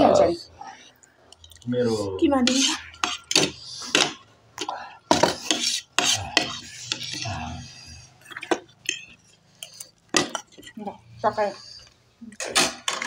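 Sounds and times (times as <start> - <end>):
spoons clinking and scraping bowls: 2.4 - 13.0.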